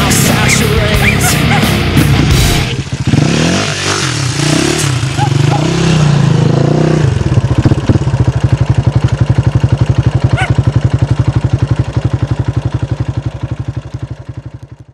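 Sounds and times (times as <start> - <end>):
quad engine idling: 0.0 - 14.9.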